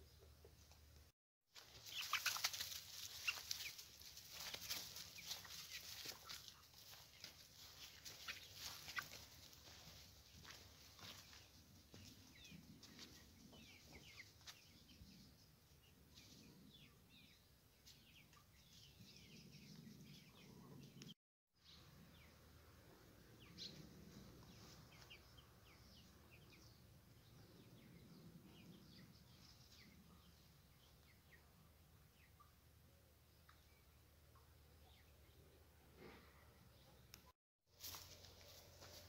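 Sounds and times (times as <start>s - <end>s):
faint birds chirping: 1.6s - 39.0s.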